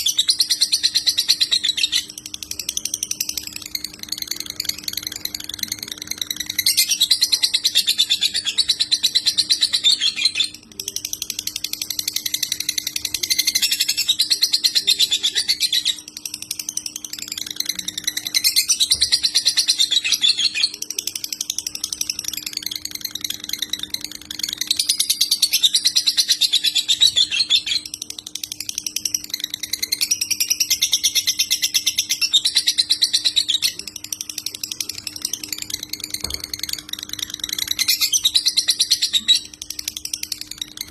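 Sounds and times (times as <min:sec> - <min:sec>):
faint steady hum: 0:00.0 - 0:40.9
lovebird chattering trills: 0:00.0 - 0:40.9.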